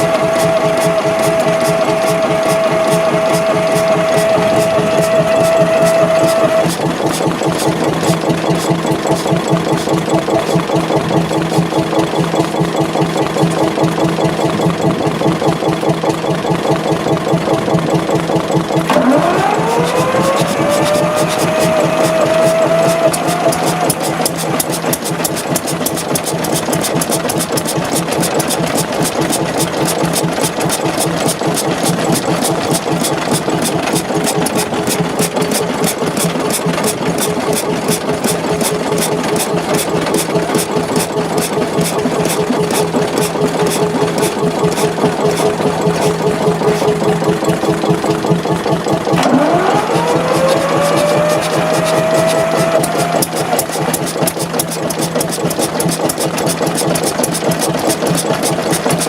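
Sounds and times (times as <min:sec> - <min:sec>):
engine whine: 0:00.0 - 0:27.0, 0:31.2 - 0:55.2
diesel engine knocking: 0:00.0 - 0:59.0.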